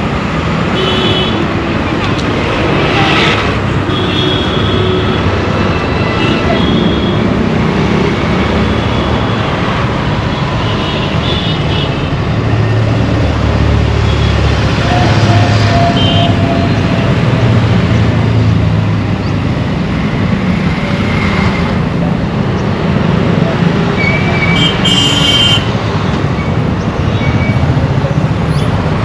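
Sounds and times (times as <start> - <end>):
engine and tyre noise: 0.0 - 29.0.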